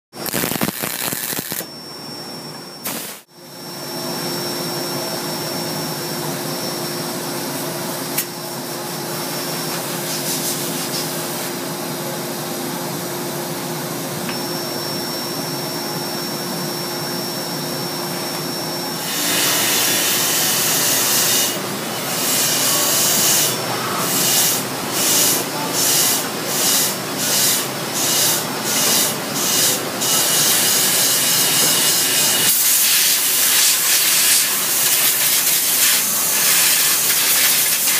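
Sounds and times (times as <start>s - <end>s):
shop machinery hum: 0.1s - 37.9s.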